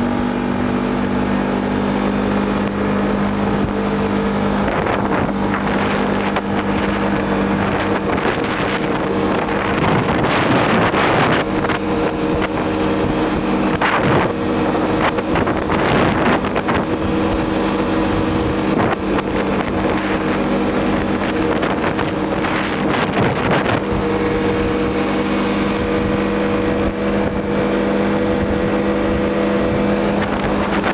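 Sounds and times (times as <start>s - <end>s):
vehicle engine running: 0.0s - 30.9s
wind noise on microphone: 2.3s - 30.9s.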